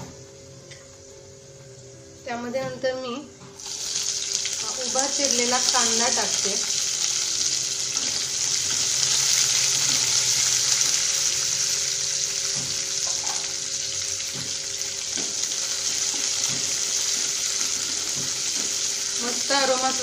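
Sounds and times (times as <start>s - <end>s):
onions sizzling in hot oil: 3.6s - 20.0s.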